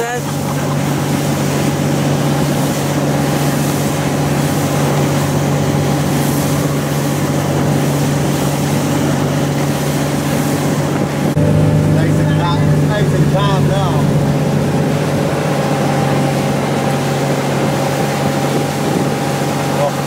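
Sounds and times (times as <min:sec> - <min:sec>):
outboard engine running: 0:00.0 - 0:20.0
rushing water: 0:00.0 - 0:20.0
wind: 0:00.0 - 0:20.0.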